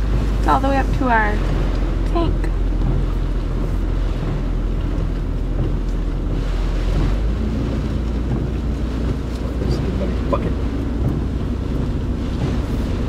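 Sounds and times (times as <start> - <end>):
car interior rumble: 0.0 - 13.0
rain noise: 0.0 - 13.0
wind noise: 0.0 - 13.0.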